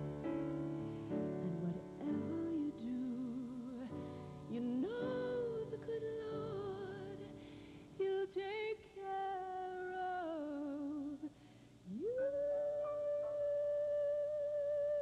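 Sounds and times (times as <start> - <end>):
woman singing a slow ballad: 1.2 - 15.0.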